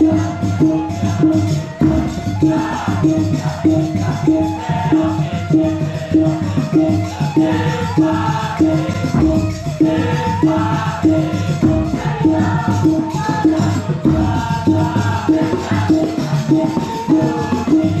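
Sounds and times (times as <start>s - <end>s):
men chanting rhythmic calls: 0.0s - 18.0s.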